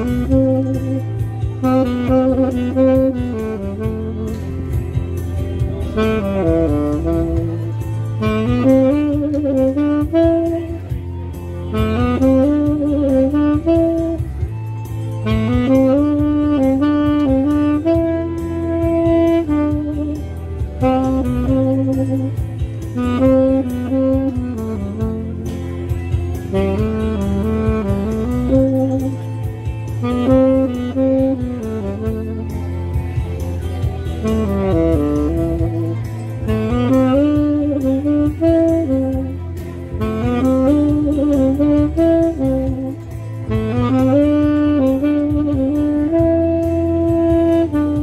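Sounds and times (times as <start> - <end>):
low bass backing: 0.0 - 48.0
tenor saxophone melody: 0.0 - 48.0.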